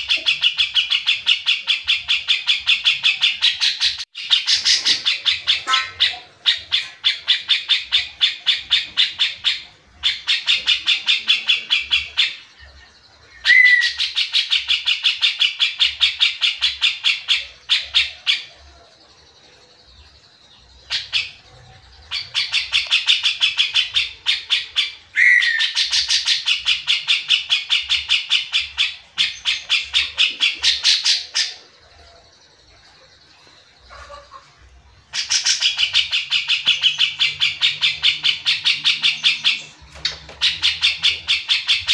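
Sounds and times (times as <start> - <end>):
bulbul chattering song: 0.0 - 41.9.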